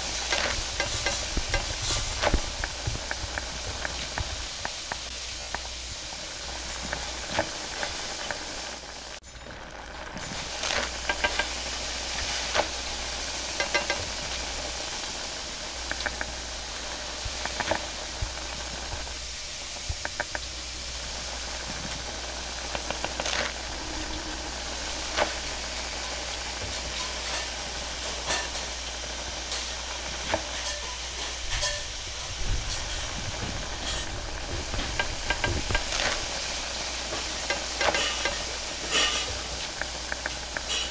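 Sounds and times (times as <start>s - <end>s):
flatbread sizzling on a griddle: 0.0s - 40.9s.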